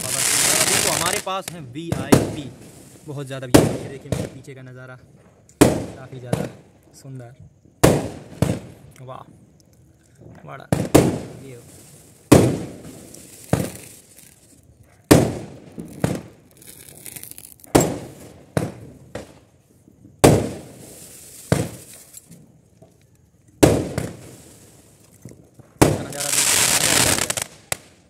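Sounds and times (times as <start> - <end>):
fireworks bursting with sharp bangs: 0.0 - 9.6, 10.2 - 28.0.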